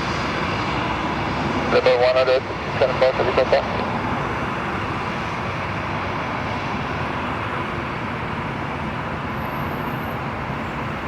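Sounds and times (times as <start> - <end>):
jet aircraft engines running: 0.0 - 11.0.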